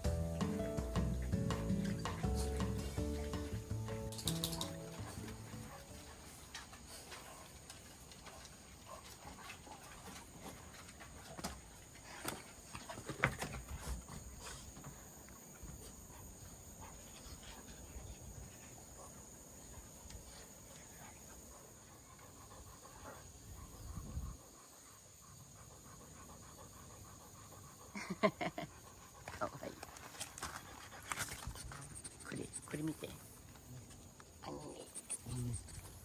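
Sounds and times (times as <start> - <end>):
dogs panting: 0.0 - 36.0.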